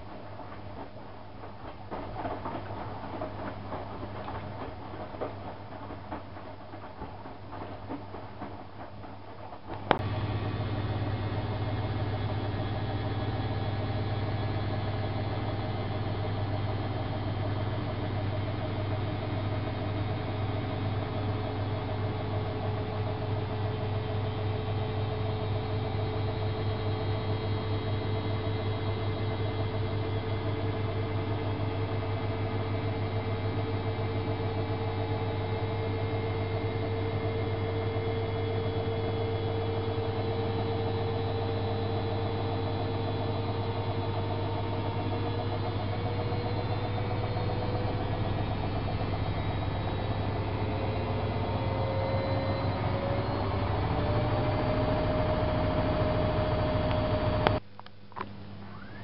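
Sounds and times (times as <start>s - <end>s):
washing machine hum: 0.0s - 59.0s
motor whine rising in pitch: 10.0s - 57.6s, 58.4s - 59.0s.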